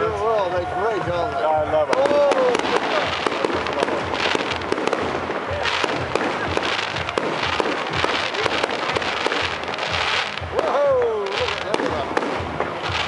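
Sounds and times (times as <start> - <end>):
fireworks crackling and popping: 1.8 - 13.0.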